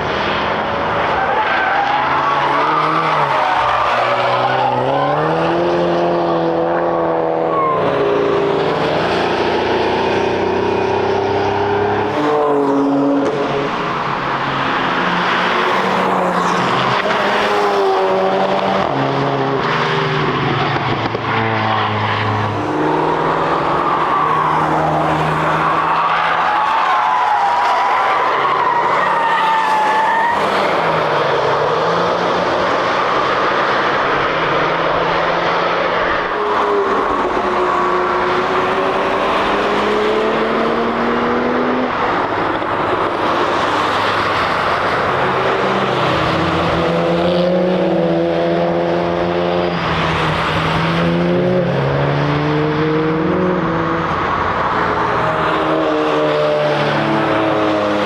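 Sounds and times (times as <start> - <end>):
racing car engines revving: 0.0 - 58.0
tyre and road noise: 0.0 - 58.0.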